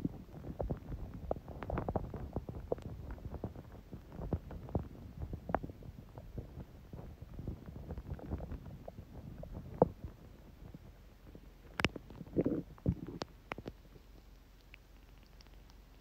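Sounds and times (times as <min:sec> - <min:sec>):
stomach gurgling: 0:00.0 - 0:16.0.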